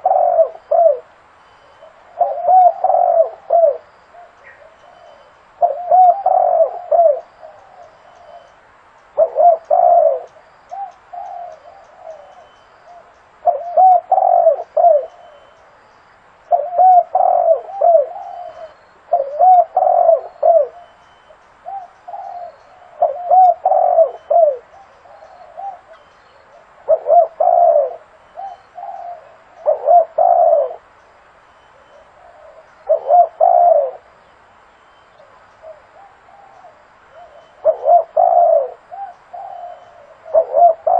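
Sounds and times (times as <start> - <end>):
dove cooing: 0.0 - 8.6, 9.2 - 15.6, 16.5 - 31.0, 31.7 - 34.2, 35.2 - 40.9.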